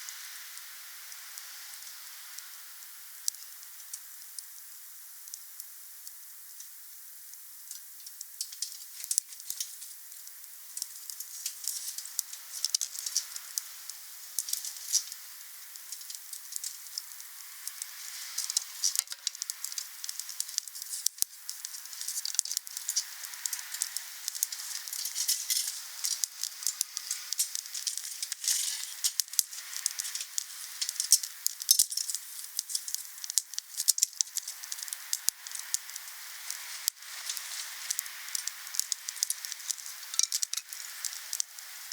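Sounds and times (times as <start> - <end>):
steady hiss: 0.0 - 41.9
wood fire crackling: 0.4 - 41.9.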